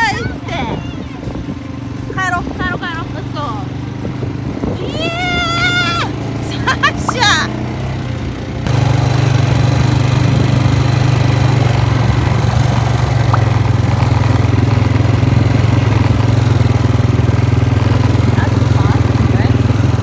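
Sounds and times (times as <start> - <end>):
quad bike engine under throttle: 0.0 - 20.0.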